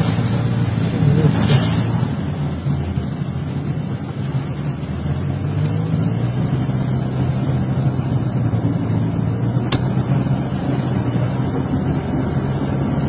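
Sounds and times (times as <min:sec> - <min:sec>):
car engine hum: 0:00.0 - 0:13.0
tyre noise on wet road: 0:00.0 - 0:13.0.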